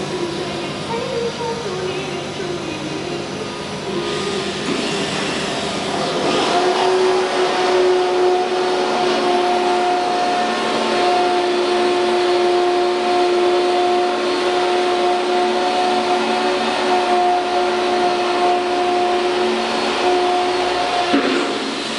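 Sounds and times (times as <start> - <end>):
cnc router whining: 0.0 - 21.9.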